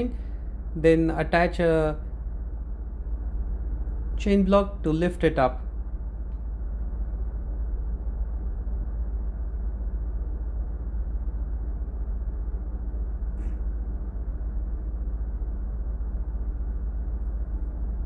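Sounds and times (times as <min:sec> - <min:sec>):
machinery running low rumble: 0:00.0 - 0:18.0.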